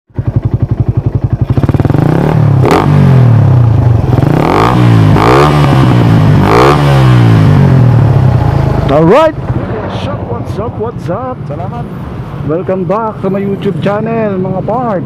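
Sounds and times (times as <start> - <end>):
motorcycle engine revving: 0.1 - 12.5.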